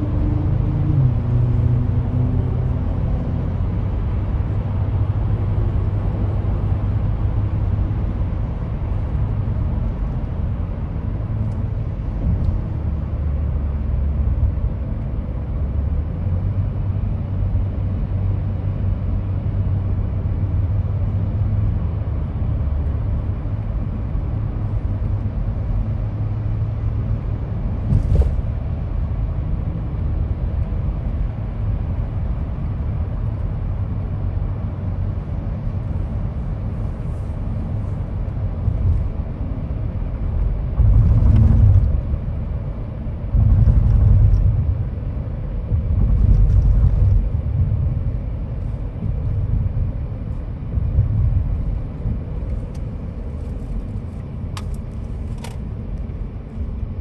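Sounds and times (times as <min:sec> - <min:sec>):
car road noise inside cabin: 0:00.0 - 0:57.0.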